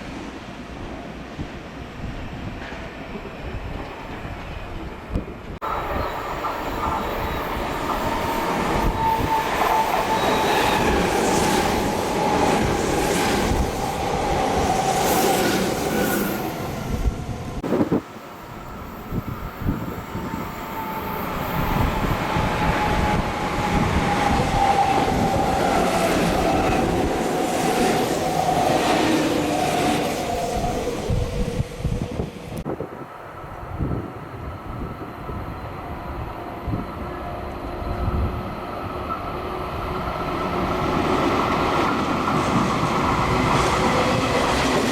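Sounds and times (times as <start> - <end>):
electric trains passing with whine: 2.4 - 44.9.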